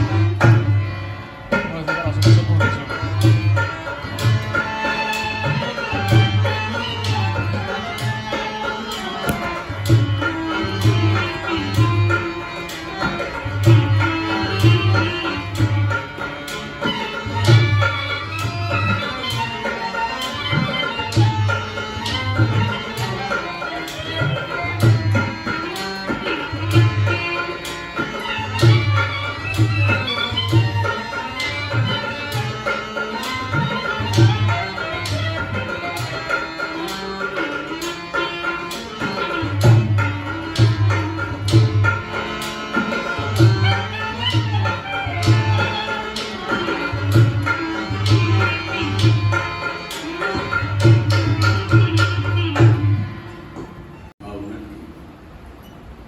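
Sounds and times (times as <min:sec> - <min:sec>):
sustained melodic instrument: 0:00.0 - 0:54.2
tabla drumming: 0:00.0 - 0:55.7.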